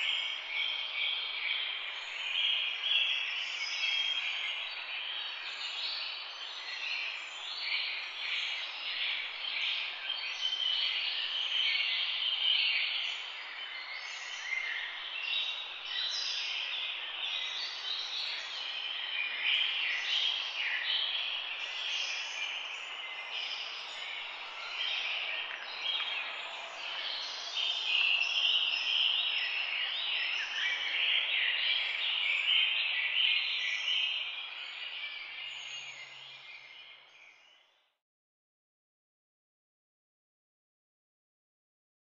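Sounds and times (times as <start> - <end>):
many small birds chirping: 0.0 - 37.7.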